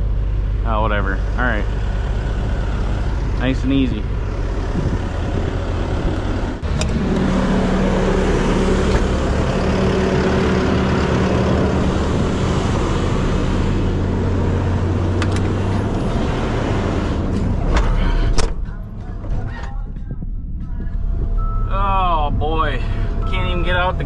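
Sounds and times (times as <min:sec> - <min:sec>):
truck engine humming: 0:00.0 - 0:24.0.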